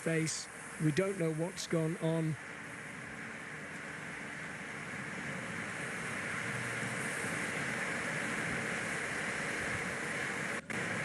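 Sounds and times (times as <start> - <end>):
rushing wind: 0.0 - 11.0.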